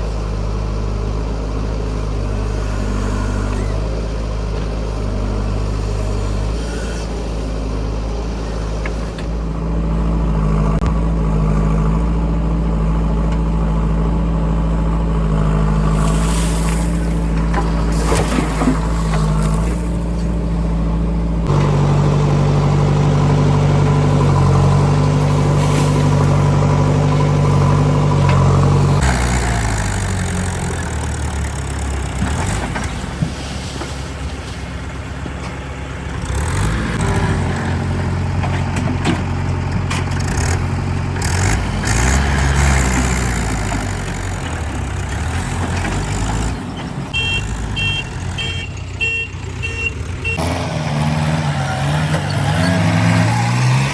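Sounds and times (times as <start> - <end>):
diesel engines working: 0.0 - 53.9.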